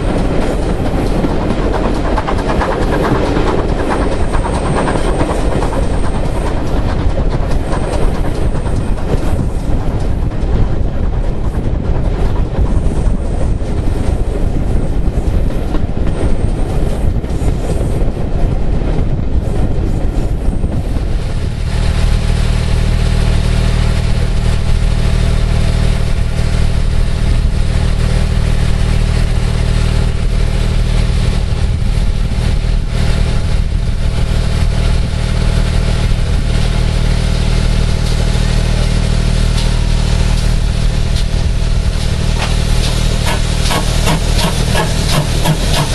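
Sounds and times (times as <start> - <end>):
locomotive engine drone: 0.0 - 45.9
railway carriage rumbling on track: 0.0 - 45.9.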